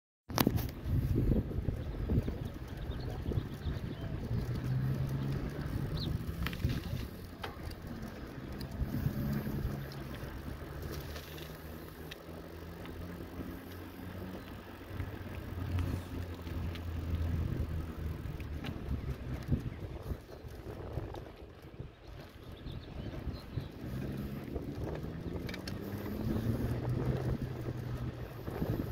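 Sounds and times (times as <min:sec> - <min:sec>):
light clicks and rattles: 0:00.3 - 0:28.9
wind rumble on microphone: 0:00.3 - 0:28.9
vehicle engine droning: 0:00.4 - 0:28.9.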